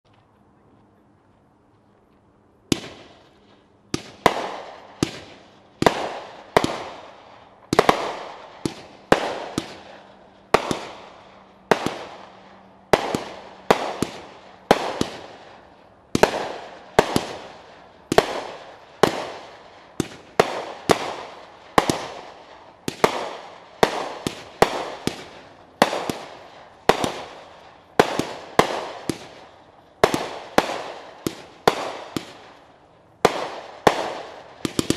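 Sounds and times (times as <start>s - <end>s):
firework cake bangs echoing: 3.9s - 34.9s.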